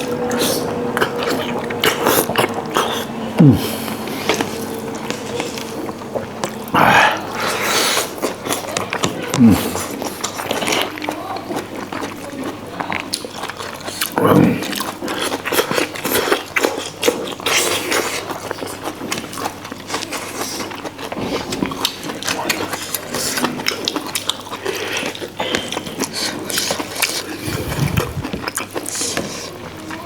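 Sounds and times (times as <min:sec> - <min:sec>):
close-up chewing sounds: 0:00.0 - 0:30.0.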